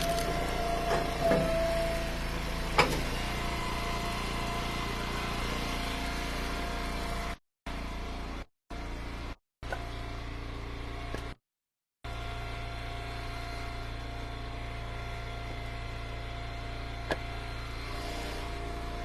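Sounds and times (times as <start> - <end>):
wood splitter engine running: 0.0 - 11.4, 12.1 - 19.0.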